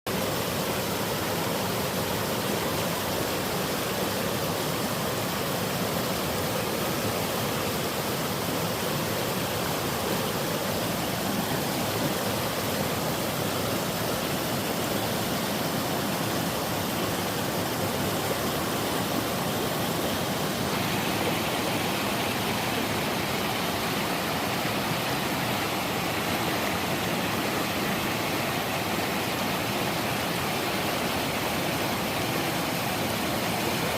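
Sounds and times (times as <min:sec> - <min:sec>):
waterfall rushing and splashing: 0:00.1 - 0:33.9.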